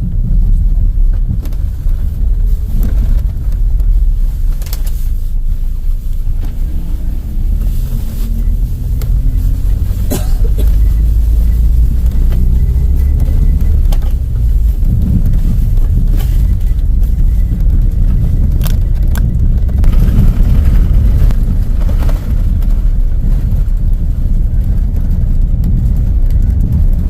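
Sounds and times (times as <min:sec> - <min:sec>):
faint engine tones: 0:00.0 - 0:27.0
vehicle low rumble: 0:00.0 - 0:27.0.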